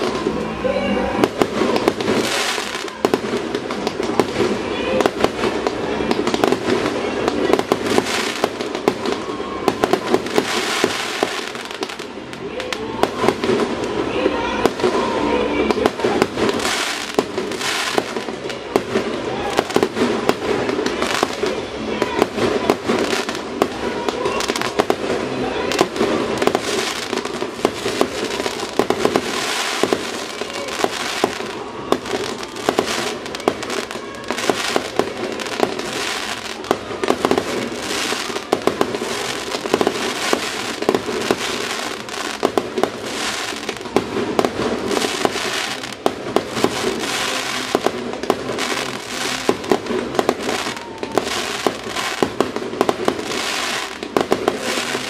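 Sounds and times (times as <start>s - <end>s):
firework bangs: 0.0s - 55.0s
firework crackling: 0.0s - 55.0s.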